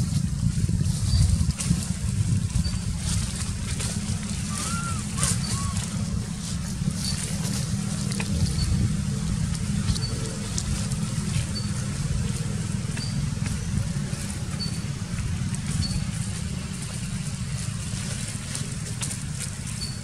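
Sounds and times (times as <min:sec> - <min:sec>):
low fluctuating rumble: 0:00.0 - 0:20.0.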